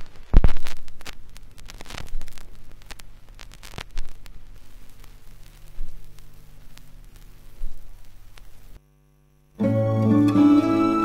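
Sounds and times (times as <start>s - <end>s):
vinyl pops: 0.0s - 10.2s
mains hum: 0.0s - 11.0s
vinyl surface crackle and hiss: 0.0s - 11.0s.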